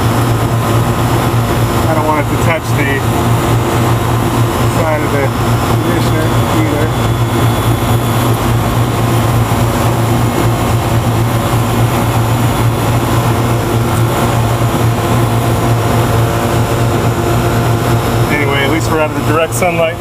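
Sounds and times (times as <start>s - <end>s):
compressor hum: 0.0s - 20.0s
condenser fan rushing: 0.0s - 20.0s.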